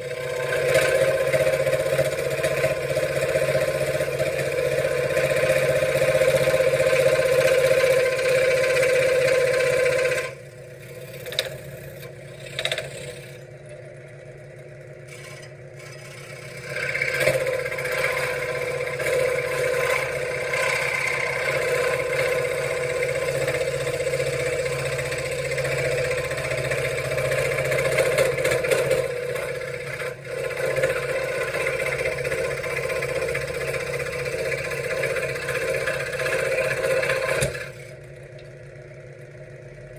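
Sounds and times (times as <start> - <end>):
scroll saw cutting wood: 0.0 - 13.5, 15.1 - 38.0.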